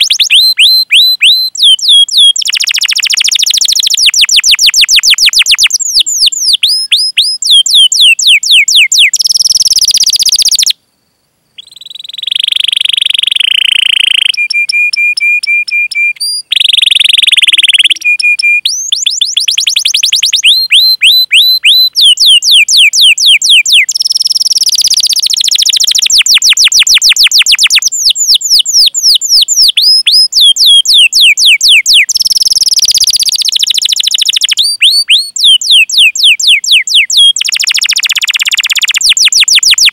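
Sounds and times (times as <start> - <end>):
canary singing: 0.0 - 10.8, 11.6 - 39.9.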